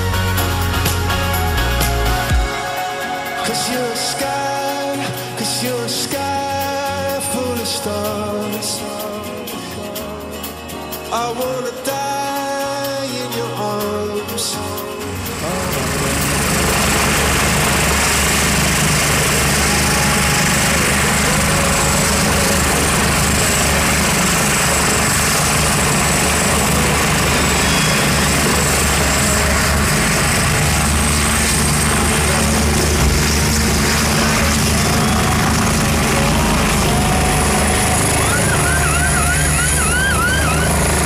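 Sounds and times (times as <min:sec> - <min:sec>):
helicopter rotor and engine rumble: 0:00.0 - 0:41.0
high turbine whine: 0:00.0 - 0:41.0.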